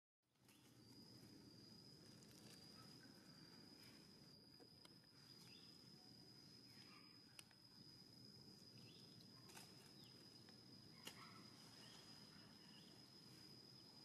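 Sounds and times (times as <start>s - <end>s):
faint chirps: 0.3s - 14.0s.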